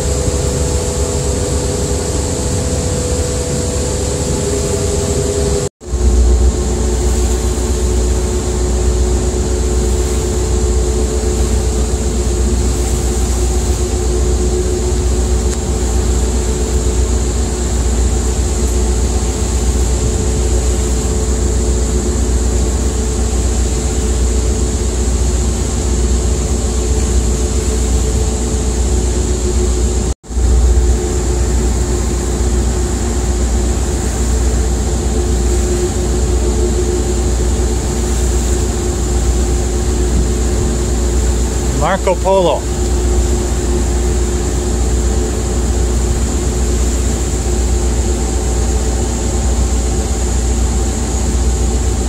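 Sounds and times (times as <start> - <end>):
loud engine drone: 0.0 - 52.0.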